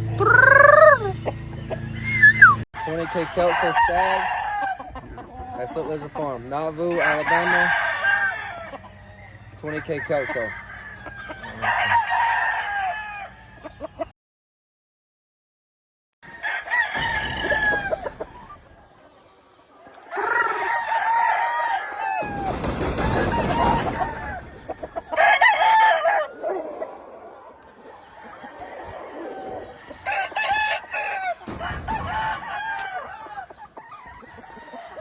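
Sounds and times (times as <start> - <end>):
roosters crowing: 0.2 - 14.1, 16.2 - 35.0.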